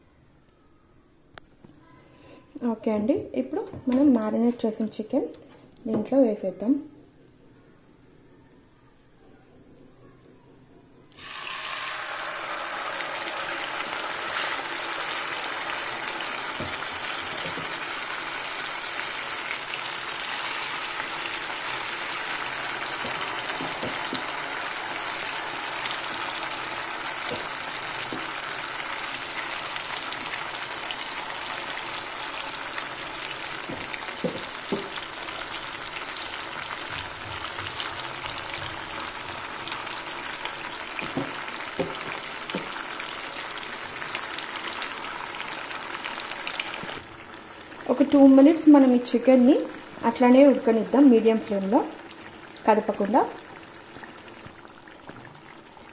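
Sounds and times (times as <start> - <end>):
chicken sizzling in hot oil: 11.1 - 55.9.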